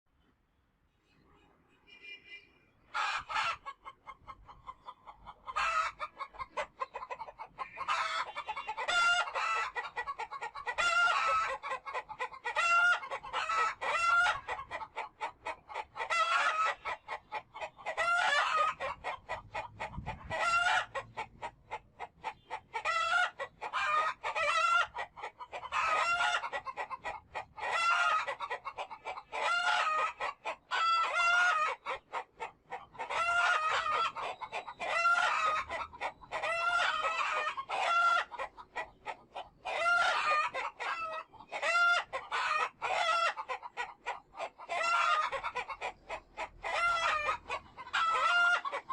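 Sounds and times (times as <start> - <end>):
chickens clucking: 2.9 - 48.9.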